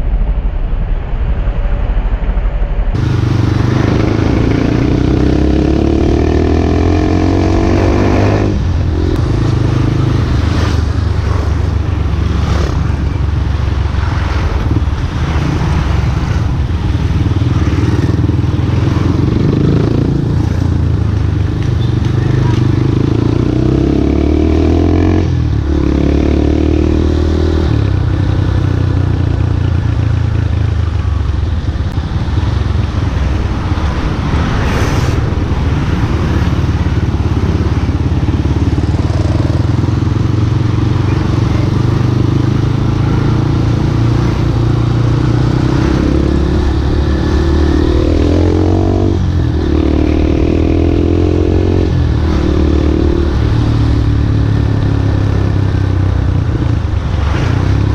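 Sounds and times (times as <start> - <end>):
motorcycle engine running: 2.8 - 34.6, 35.3 - 57.9.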